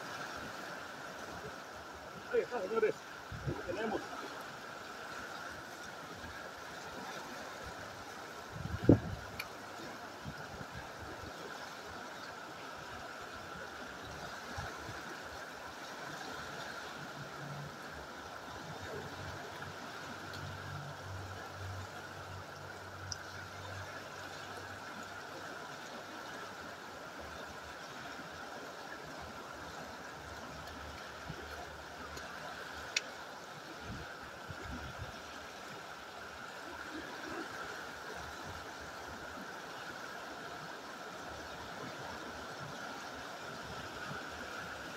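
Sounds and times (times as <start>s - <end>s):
fast-flowing river rushing: 0.0s - 44.9s.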